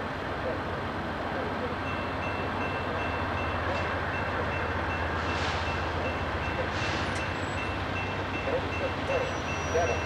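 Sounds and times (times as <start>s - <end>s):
diesel locomotive rumble: 0.0s - 10.0s
crossing bell dinging: 1.8s - 10.0s.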